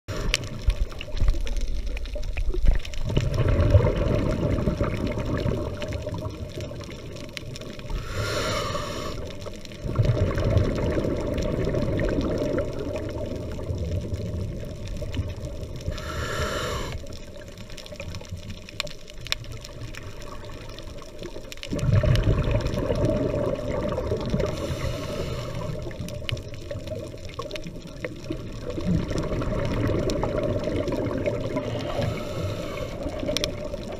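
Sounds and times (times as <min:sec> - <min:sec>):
muffled underwater rushing water: 0:00.1 - 0:33.9.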